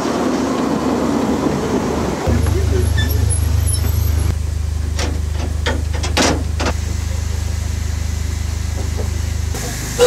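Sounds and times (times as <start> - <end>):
steam locomotive rumble: 0.0 - 10.0.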